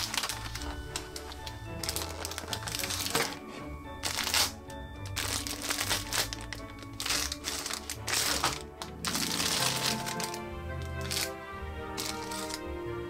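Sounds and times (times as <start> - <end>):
plastic packaging crinkling: 0.0 - 11.3, 12.0 - 12.6
background music held notes: 0.0 - 13.0.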